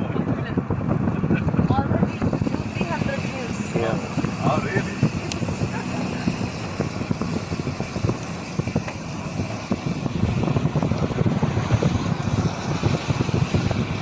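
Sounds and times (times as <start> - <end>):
car road rumble: 0.0 - 14.0
wind buffeting microphone: 0.0 - 14.0.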